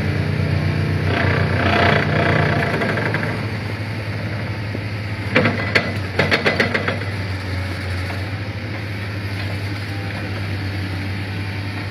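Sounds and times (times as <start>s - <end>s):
excavator engine humming: 0.0s - 11.9s.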